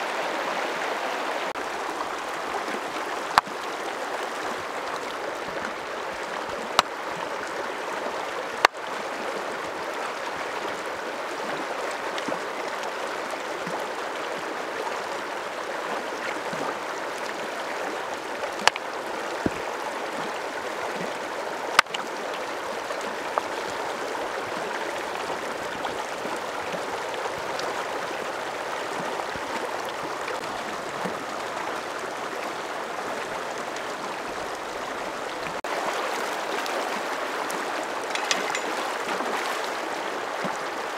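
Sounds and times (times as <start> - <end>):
stream rushing over stones: 0.0 - 40.9.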